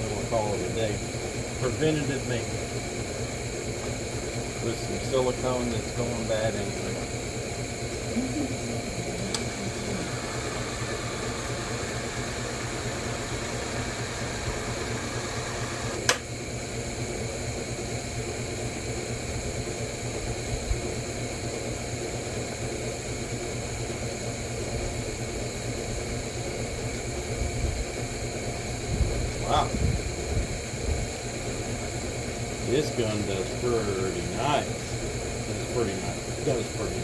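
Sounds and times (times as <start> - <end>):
fan-like mechanical hum: 0.0 - 37.0.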